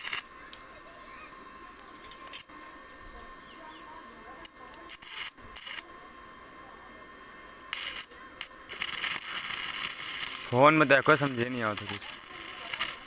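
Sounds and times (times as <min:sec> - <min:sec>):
steady high hiss: 0:00.0 - 0:13.0
welding arc crackle and sputter: 0:00.0 - 0:13.0.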